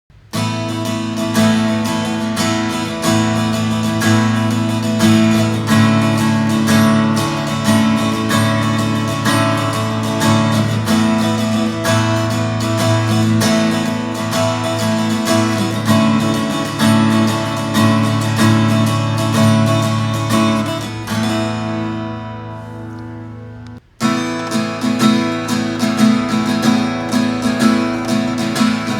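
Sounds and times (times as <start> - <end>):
acoustic guitar strumming chords: 0.1 - 28.9.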